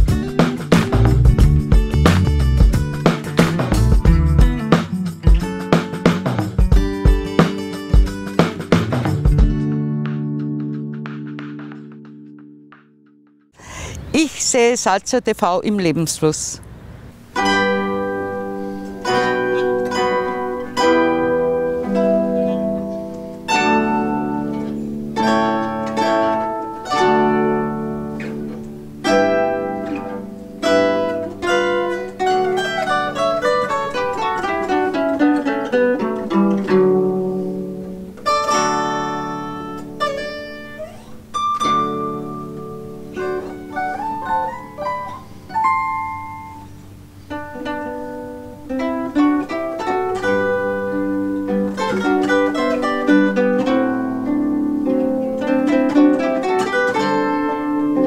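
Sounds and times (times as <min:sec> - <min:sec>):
zithers playing a duet: 0:00.0 - 0:09.8, 0:17.3 - 0:58.0.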